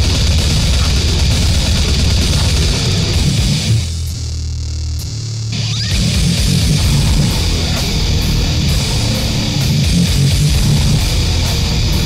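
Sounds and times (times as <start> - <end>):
loud guitar-driven grind music: 0.0 - 12.0.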